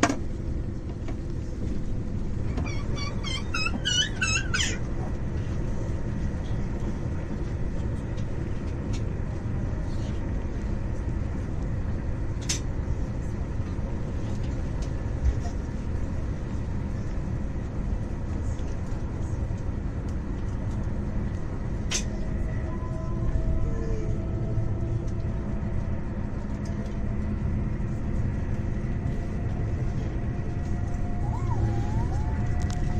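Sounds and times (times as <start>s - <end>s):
electric train rumble: 0.0s - 32.9s.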